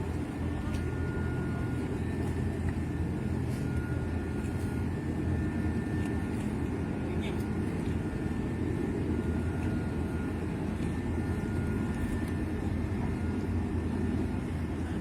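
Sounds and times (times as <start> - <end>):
boat engine rumbling: 0.0 - 15.0
faint whine: 0.0 - 15.0.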